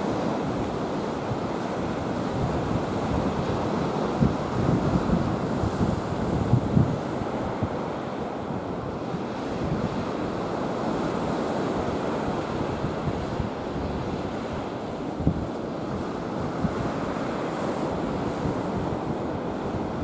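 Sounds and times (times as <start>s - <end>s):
waves breaking on sandy beach: 0.0s - 20.0s
wind buffeting microphone: 0.1s - 20.0s.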